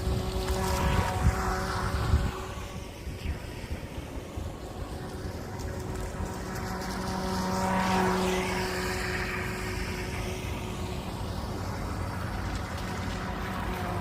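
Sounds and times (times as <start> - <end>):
toy speedboat motor whining: 0.0 - 14.0.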